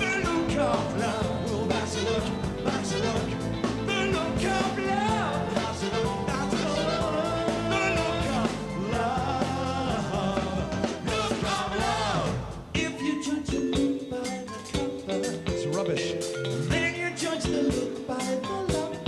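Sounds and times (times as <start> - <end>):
live pop band: 0.0 - 19.0
man singing: 0.0 - 19.0.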